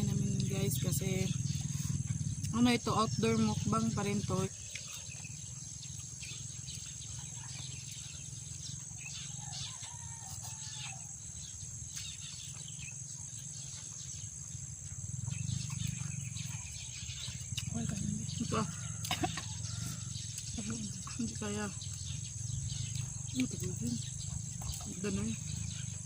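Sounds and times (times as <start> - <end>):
crickets chirping: 0.0 - 26.0
low steady hum: 0.0 - 26.0.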